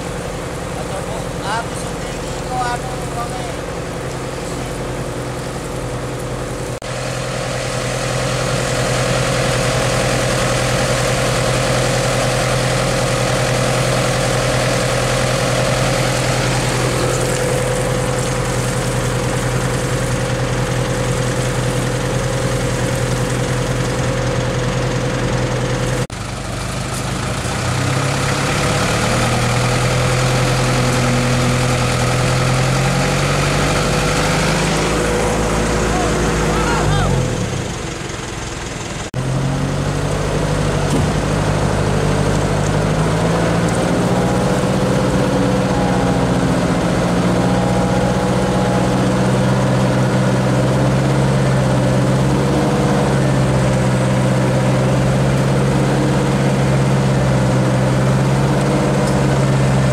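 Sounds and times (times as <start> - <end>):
truck engine revving: 0.0 - 59.9
truck engine running: 0.0 - 59.9.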